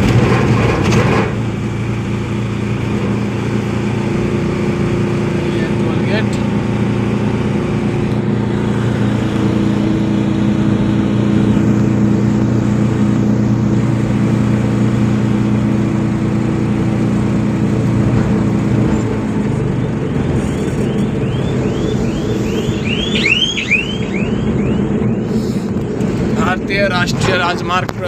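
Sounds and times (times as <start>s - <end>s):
diesel truck engine running: 0.0s - 28.0s
tyre and road noise: 0.0s - 28.0s.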